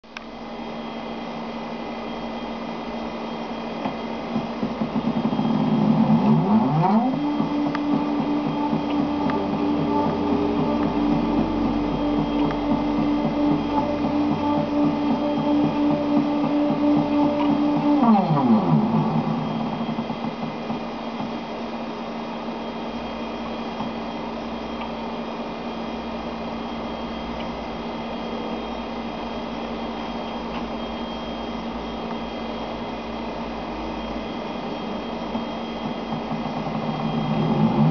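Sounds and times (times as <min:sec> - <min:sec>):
electrical hum: 0:00.0 - 0:37.9
pulsing motor whine: 0:00.2 - 0:37.9.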